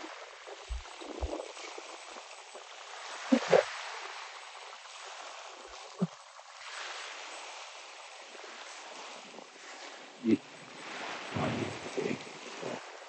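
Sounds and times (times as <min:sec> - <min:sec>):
sea water rushing past boat: 0:00.0 - 0:13.0
wind: 0:00.0 - 0:13.0.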